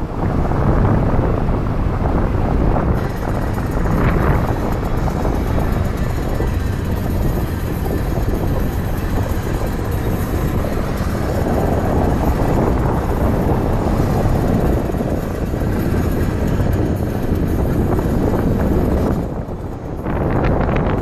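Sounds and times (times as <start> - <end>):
car engine: 0.0 - 21.0
tyre noise: 0.0 - 21.0
wind rumble: 0.0 - 21.0.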